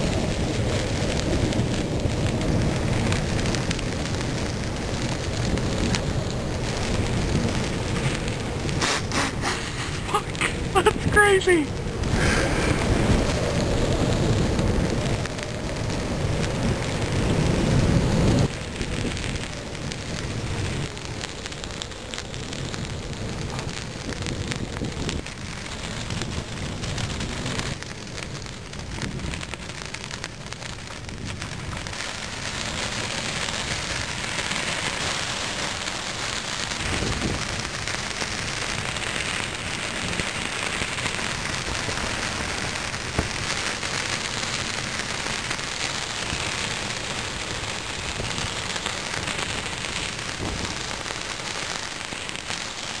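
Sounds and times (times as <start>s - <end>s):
heavy rain hiss: 0.0s - 53.0s.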